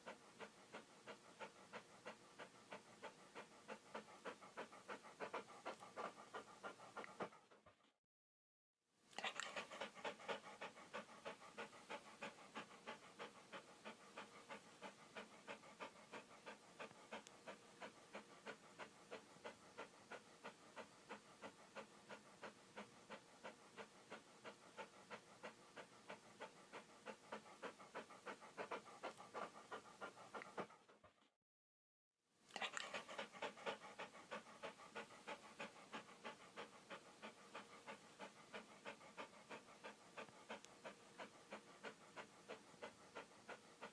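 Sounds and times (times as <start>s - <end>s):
dog panting rapidly: 0.0s - 8.0s, 9.2s - 31.4s, 32.5s - 43.9s.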